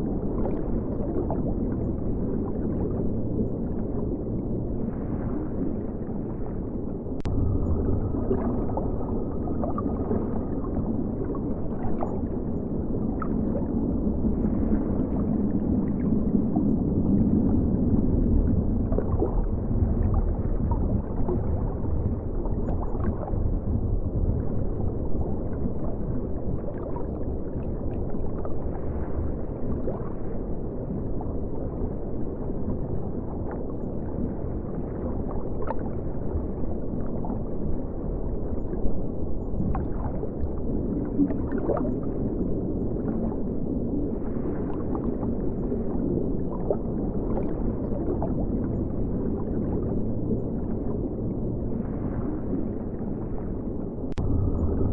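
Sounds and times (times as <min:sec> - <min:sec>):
muffled underwater river rumble: 0:00.0 - 0:54.9.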